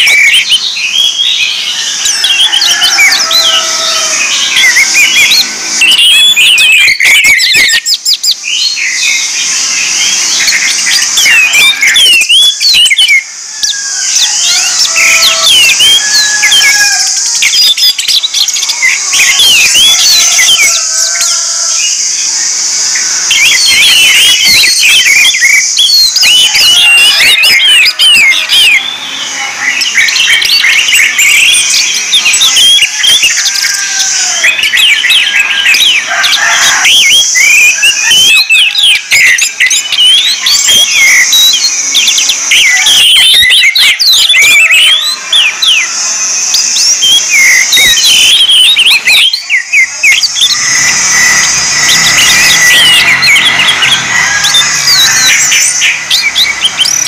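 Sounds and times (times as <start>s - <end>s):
thrush singing: 0.0s - 57.0s.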